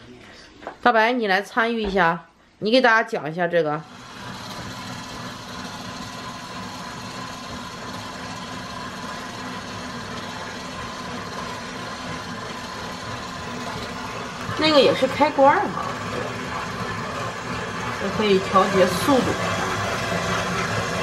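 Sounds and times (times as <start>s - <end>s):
stand mixer motor humming: 3.8s - 21.0s.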